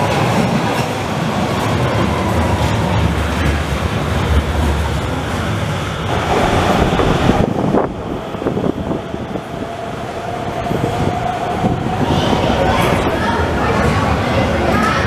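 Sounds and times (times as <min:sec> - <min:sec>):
train running past at speed: 0:00.0 - 0:15.0
train whine while slowing: 0:00.0 - 0:15.0.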